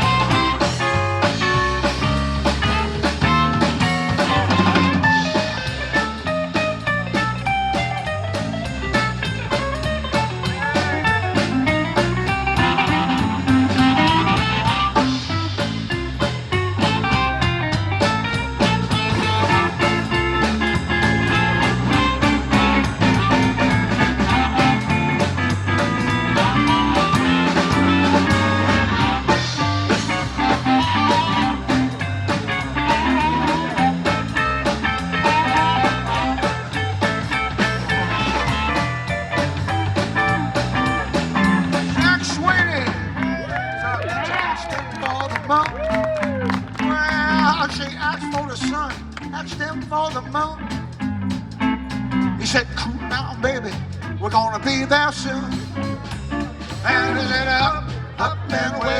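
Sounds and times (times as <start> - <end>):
electric guitar playing: 0.0 - 58.9
steady drum beat: 0.0 - 58.9.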